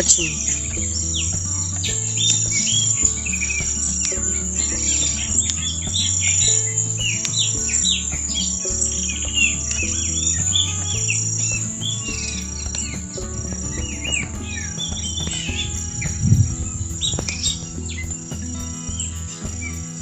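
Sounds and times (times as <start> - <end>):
soft background music: 0.0 - 20.0
songbirds chirping: 0.0 - 20.0.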